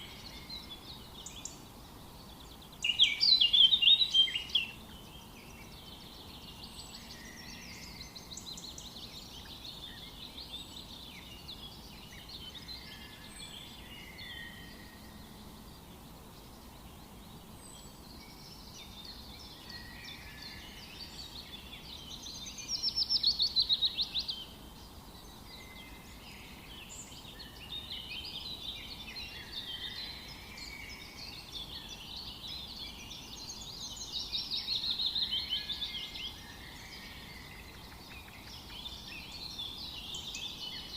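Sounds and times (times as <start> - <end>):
background hiss: 0.0 - 40.9
birds singing and calling: 0.0 - 40.9.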